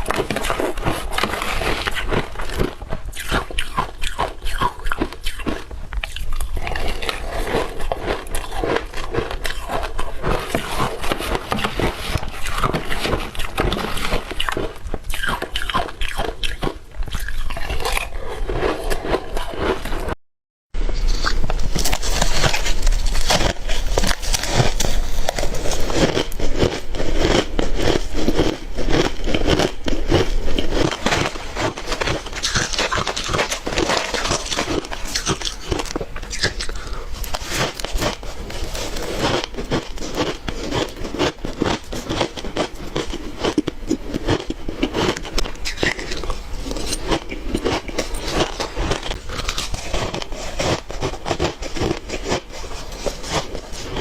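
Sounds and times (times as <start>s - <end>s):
ice crunching while chewing: 0.0s - 20.2s, 20.9s - 54.0s.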